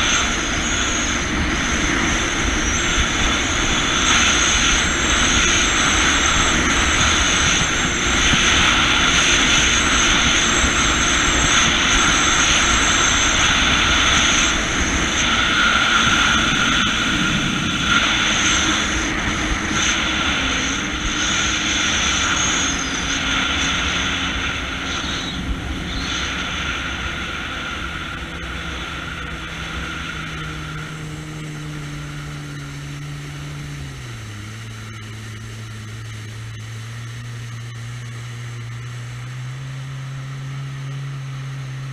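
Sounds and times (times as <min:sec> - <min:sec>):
wind on microphone: 0:00.0 - 0:39.2
jet ski engine: 0:00.0 - 0:41.9.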